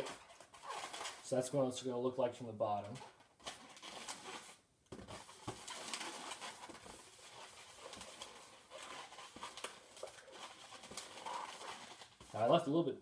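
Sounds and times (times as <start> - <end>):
rubber balloon squeaking: 0.0 - 1.4, 2.8 - 12.5.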